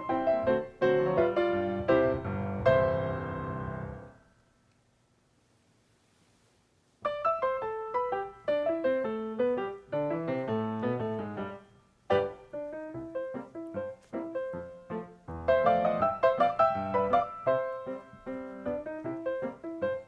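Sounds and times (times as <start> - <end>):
gentle piano melody: 0.0 - 4.2, 7.0 - 20.0.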